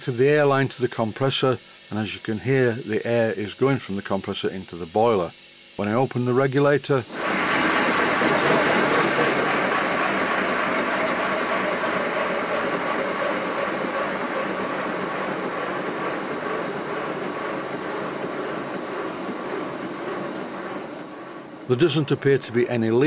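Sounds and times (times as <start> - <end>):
loud hissing air: 0.0 - 23.0
rapid steam locomotive exhaust beats: 0.0 - 23.0.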